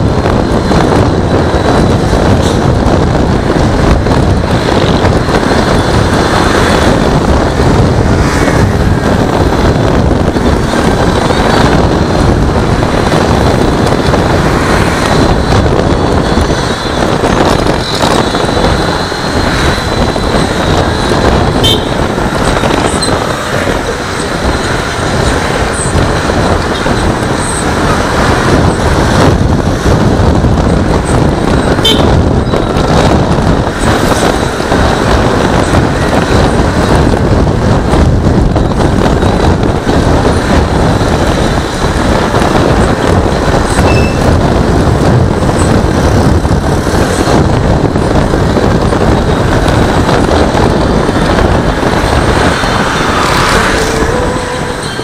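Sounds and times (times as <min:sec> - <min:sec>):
scooter road rumble: 0:00.0 - 0:55.0
wind noise: 0:00.0 - 0:55.0.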